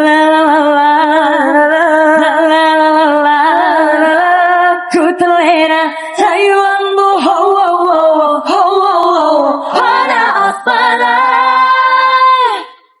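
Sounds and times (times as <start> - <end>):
women singing: 0.0 - 13.0.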